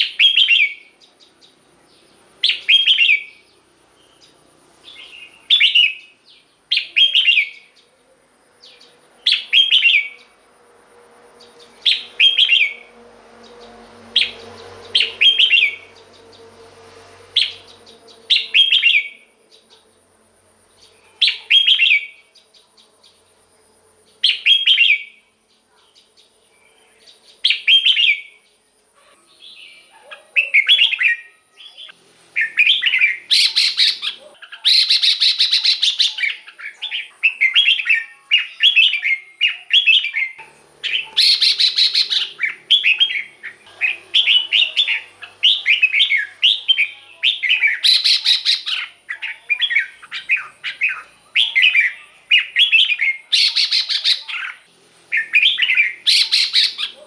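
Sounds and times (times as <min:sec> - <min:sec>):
bird singing warbling phrases: 0:00.0 - 0:10.4, 0:11.4 - 0:16.6, 0:17.2 - 0:20.0, 0:20.7 - 0:57.0.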